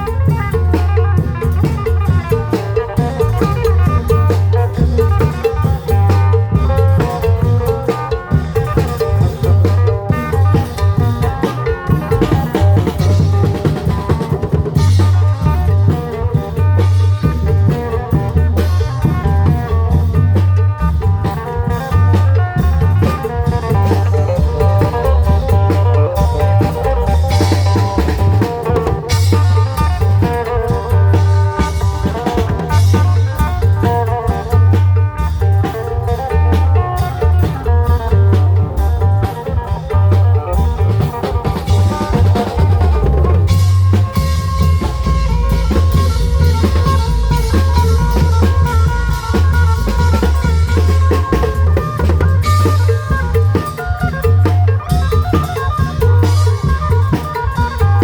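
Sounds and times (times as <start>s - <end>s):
drums with heavy bass line: 0.0s - 58.0s.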